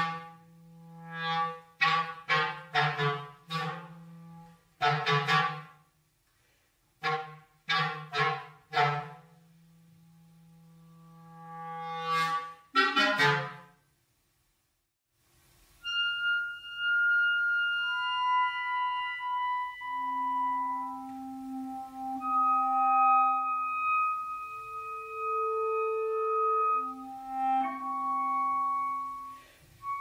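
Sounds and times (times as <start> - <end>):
clarinet duet: 0.0 - 6.0, 7.0 - 13.8, 15.6 - 30.0.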